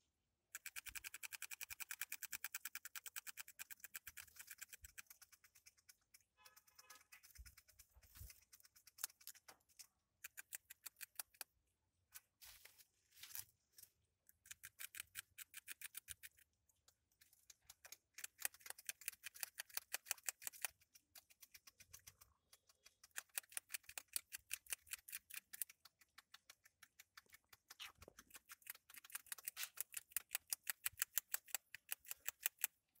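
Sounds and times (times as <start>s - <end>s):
rodent chewing stalks: 0.5s - 11.6s, 14.3s - 33.0s.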